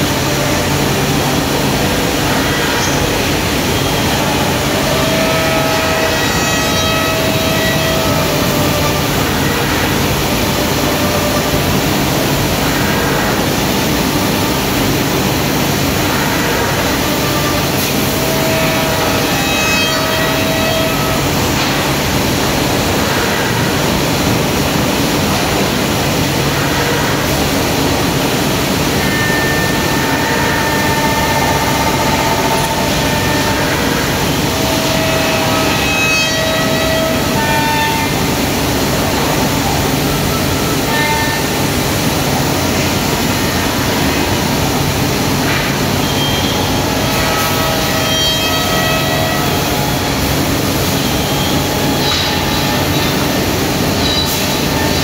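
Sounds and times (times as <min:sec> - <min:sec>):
cnc machine cutting wood: 0:00.0 - 0:55.0.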